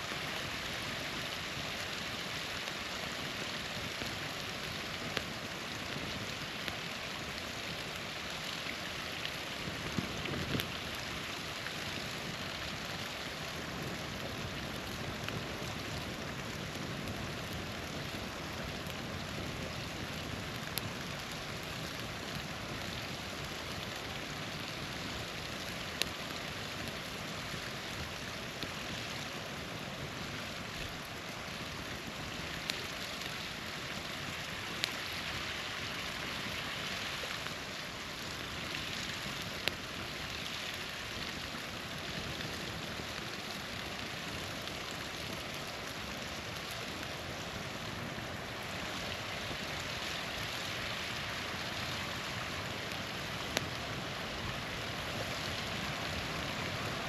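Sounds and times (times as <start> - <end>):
small waterfall rushing: 0.0 - 57.0
campfire popping: 0.1 - 57.0.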